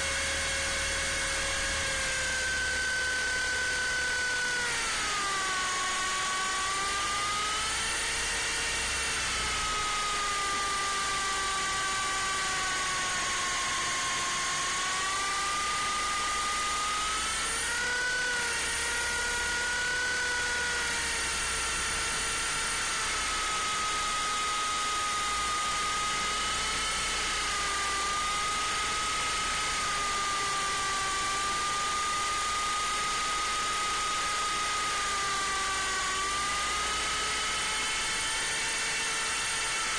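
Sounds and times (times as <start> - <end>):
toy helicopter motor whining: 0.0 - 39.9.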